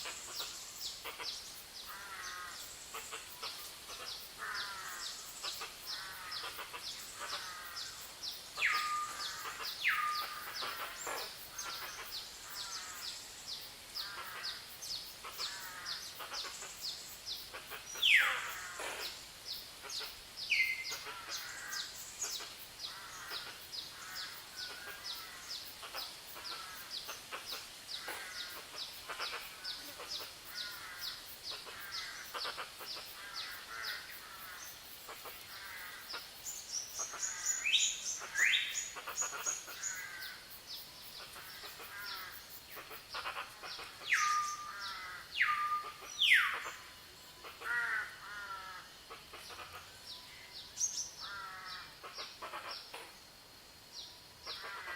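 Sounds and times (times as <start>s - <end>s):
forest birds chirping: 0.0s - 54.9s.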